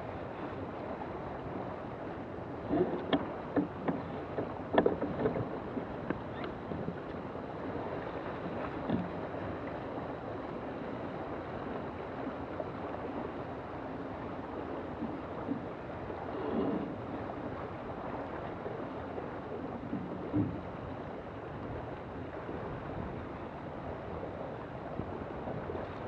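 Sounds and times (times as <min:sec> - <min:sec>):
water rushing along boat hull: 0:00.0 - 0:26.0.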